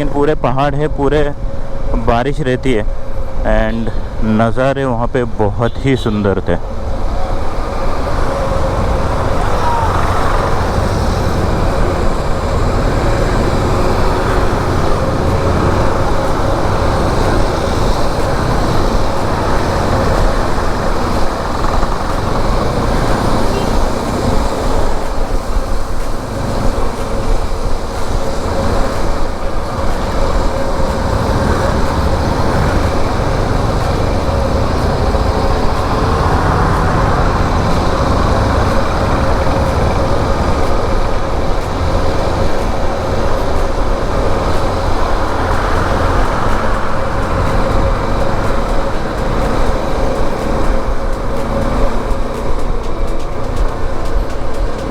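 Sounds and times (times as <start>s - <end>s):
wind noise on microphone: 0.0s - 54.9s
motorcycle running: 3.1s - 54.9s.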